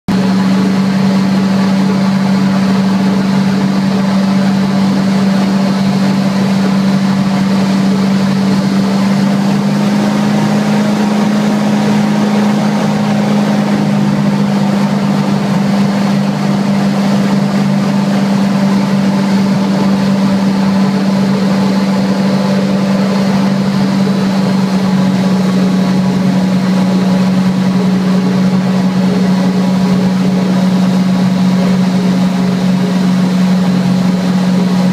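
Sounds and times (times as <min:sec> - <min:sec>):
airboat engine droning: 0:00.1 - 0:34.9.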